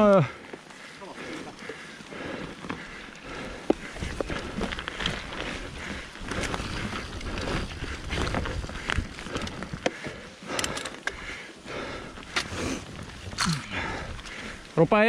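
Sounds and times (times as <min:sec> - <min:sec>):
bike tyres rolling over dirt: 0:00.0 - 0:15.0
bike clicks and rattles: 0:00.4 - 0:15.0.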